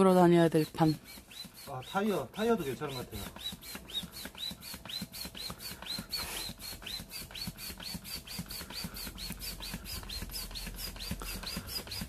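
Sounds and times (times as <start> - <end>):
hand air pump strokes squeaking: 0.0 - 12.0.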